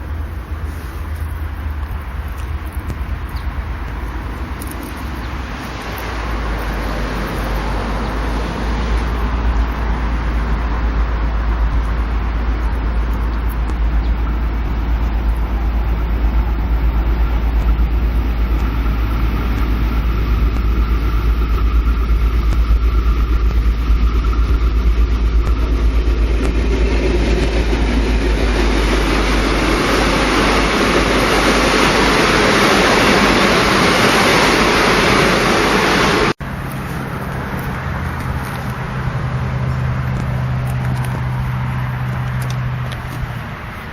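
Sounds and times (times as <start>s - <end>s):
faint hum: 0.0s - 43.9s
passenger train rumbling past: 0.0s - 43.9s.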